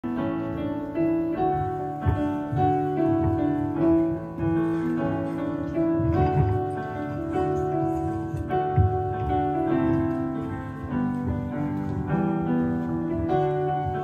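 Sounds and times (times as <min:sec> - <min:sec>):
piano chords on keyboard: 0:00.0 - 0:14.0.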